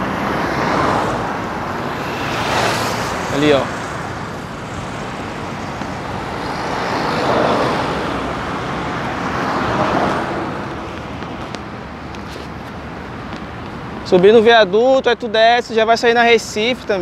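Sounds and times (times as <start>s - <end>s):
cars passing close by: 0.0s - 17.0s.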